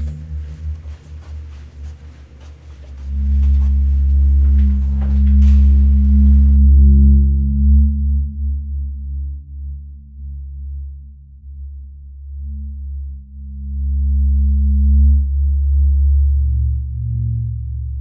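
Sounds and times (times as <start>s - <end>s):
deep low drone: 0.0s - 18.0s.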